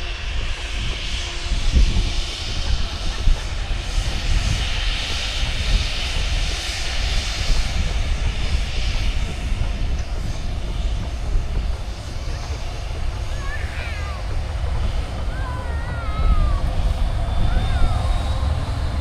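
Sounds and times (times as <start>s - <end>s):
jet engines rumbling and roaring: 0.0s - 19.0s.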